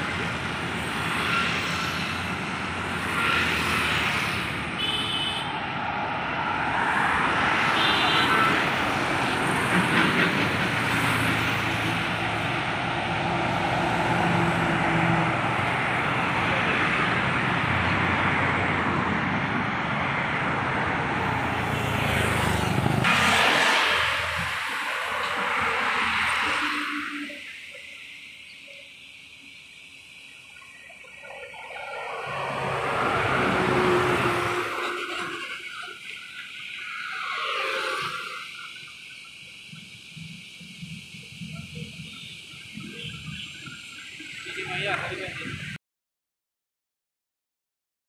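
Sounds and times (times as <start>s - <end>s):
bus engine hum: 0.0s - 29.0s, 29.8s - 45.8s
highway traffic passing: 0.0s - 45.8s.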